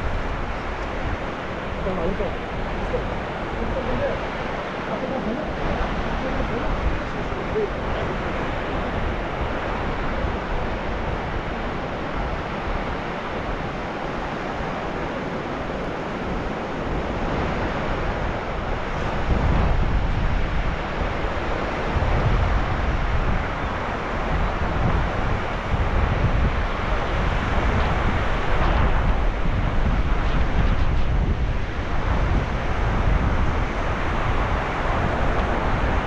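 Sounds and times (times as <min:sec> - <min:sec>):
sea waves washing in: 0:00.0 - 0:36.0
wind buffeting microphone: 0:00.0 - 0:36.0.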